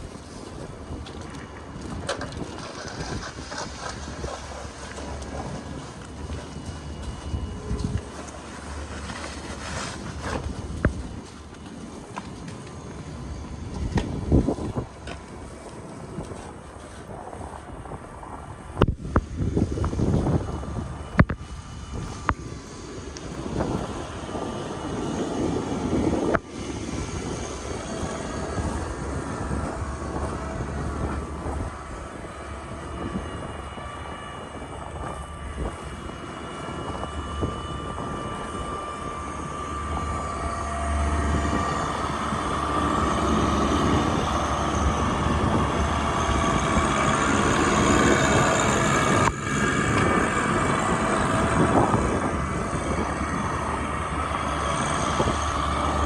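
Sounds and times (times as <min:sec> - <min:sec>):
mechanical whine: 0:00.0 - 0:56.0
vehicle engines rumbling: 0:00.0 - 0:56.0.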